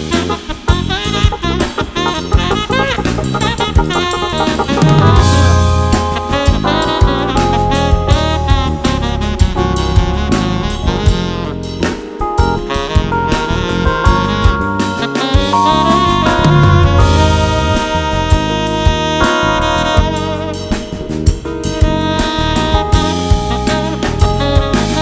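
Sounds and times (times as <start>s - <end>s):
bass line: 0.0s - 25.0s
drum kit beat: 0.0s - 25.0s
saxophone: 0.0s - 25.0s.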